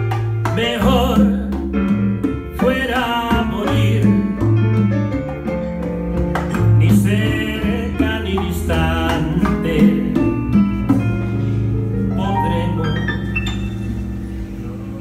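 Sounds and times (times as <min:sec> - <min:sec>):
bolero on keyboard and guitar: 0:00.0 - 0:15.0.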